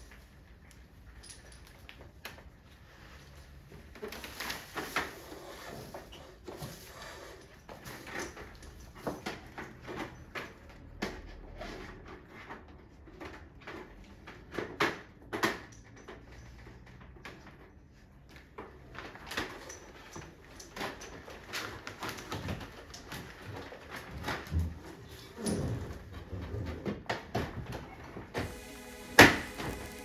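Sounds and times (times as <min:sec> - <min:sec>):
tools and parts clattering: 0:01.0 - 0:30.0.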